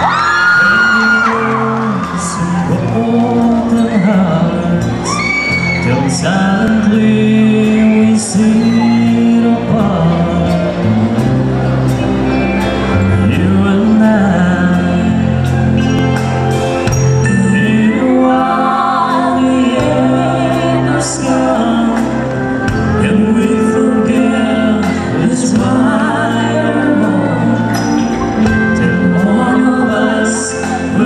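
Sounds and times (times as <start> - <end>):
man singing a slow ballad: 0.0 - 11.3, 12.9 - 16.0, 17.2 - 31.0
drums: 0.0 - 31.0
electric guitar: 0.0 - 31.0.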